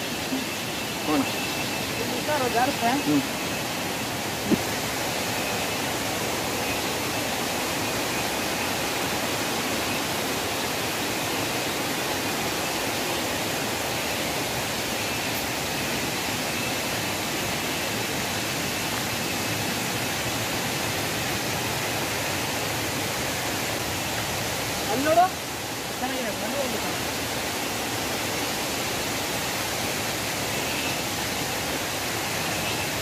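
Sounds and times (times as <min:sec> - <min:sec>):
faint high whine: 0:00.0 - 0:33.0
water rushing: 0:00.0 - 0:33.0.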